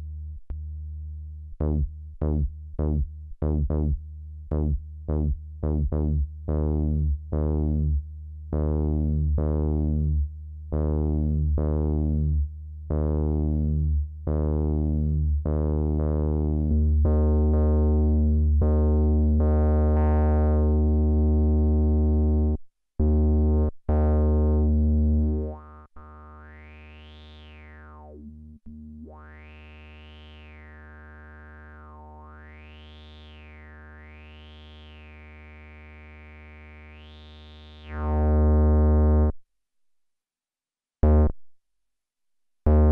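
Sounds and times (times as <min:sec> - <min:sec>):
buzzy analog bass synth note: 0:01.5 - 0:10.2, 0:10.8 - 0:39.4, 0:41.0 - 0:41.4, 0:42.7 - 0:42.9.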